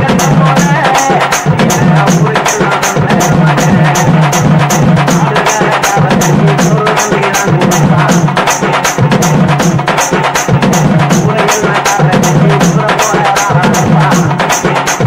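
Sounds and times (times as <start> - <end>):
music with fast percussion beat: 0.0 - 15.0.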